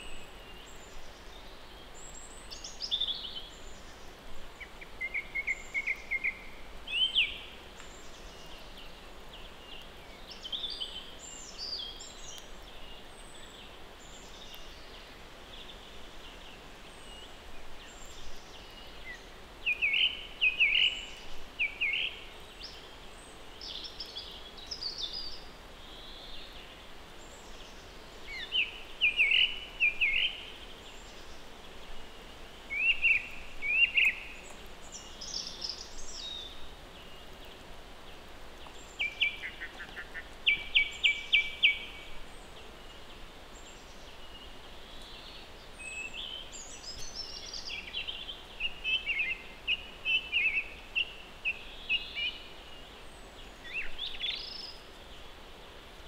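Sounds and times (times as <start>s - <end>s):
faint outdoor background: 0.0s - 56.0s
songbirds chirping: 0.0s - 56.0s.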